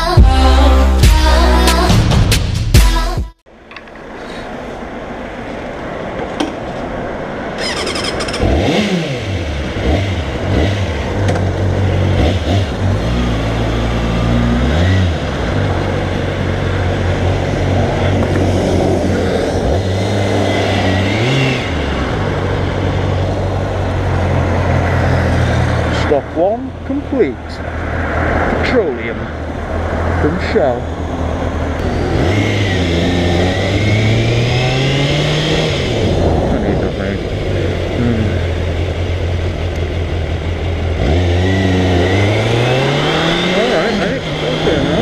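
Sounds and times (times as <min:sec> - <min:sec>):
motorcycle engine revving: 0:07.6 - 0:45.0.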